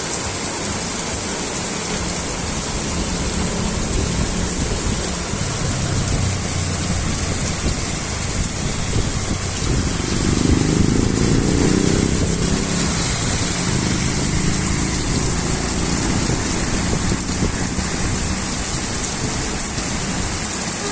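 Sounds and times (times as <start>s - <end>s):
steady rain falling: 0.0s - 20.9s
motor vehicle engine: 0.2s - 20.9s.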